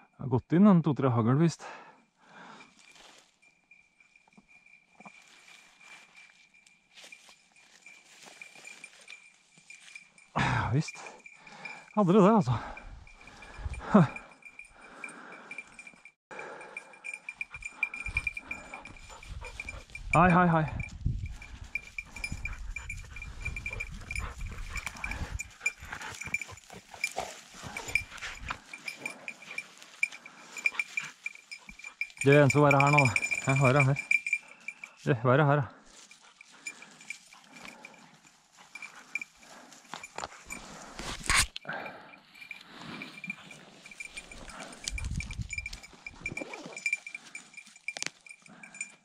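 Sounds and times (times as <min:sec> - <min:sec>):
dog collar bell tinkling: 0:02.6 - 0:49.0.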